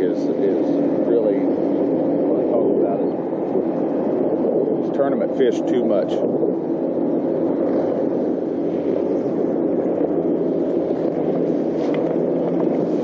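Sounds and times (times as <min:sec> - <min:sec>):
outboard motor running: 0:00.0 - 0:13.0
water noise: 0:00.0 - 0:13.0
wind noise: 0:00.0 - 0:13.0.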